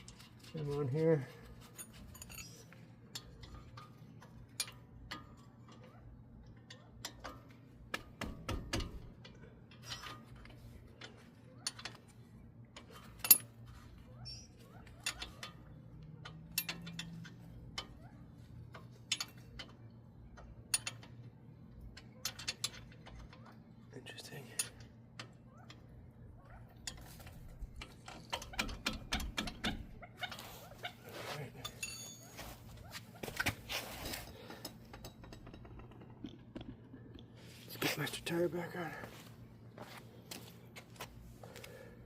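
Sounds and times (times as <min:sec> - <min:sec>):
metallic clicks and knocks: 0:00.0 - 0:23.6, 0:26.8 - 0:38.4.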